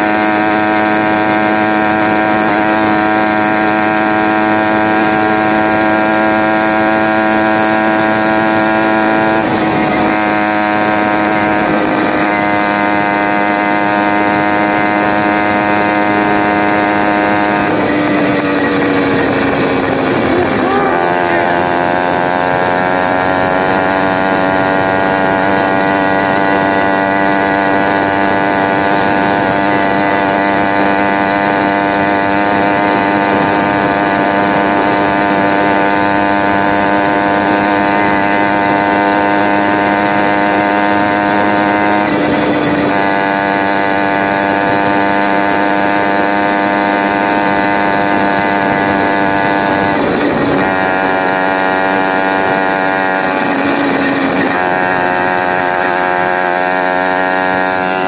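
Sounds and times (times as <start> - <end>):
two-stroke engine buzzing: 0.0 - 58.0.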